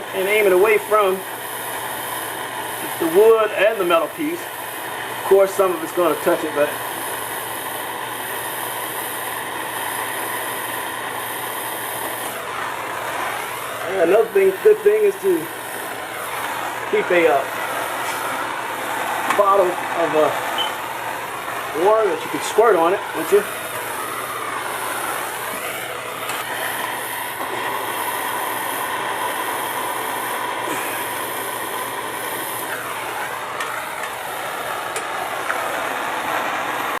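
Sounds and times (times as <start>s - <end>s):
torch flame hissing: 0.0s - 37.0s.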